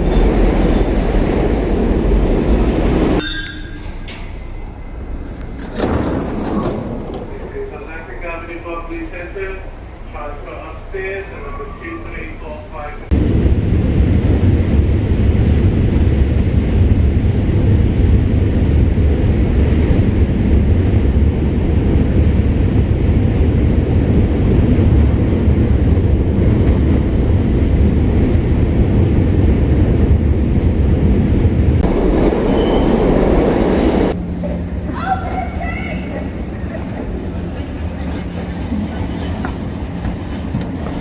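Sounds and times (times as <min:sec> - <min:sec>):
train rumbling on rails: 0:00.0 - 0:41.0.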